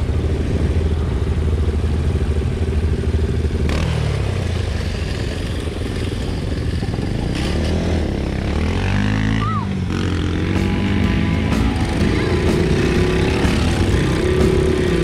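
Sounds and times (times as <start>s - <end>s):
small engines idling: 0.0s - 9.0s, 9.8s - 15.0s.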